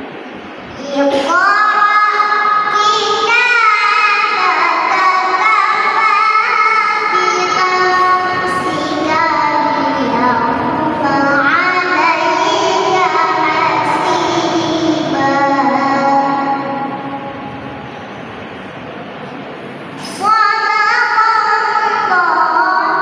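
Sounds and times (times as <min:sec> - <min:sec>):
girl reciting melodically: 0:00.8 - 0:18.7, 0:19.9 - 0:23.0.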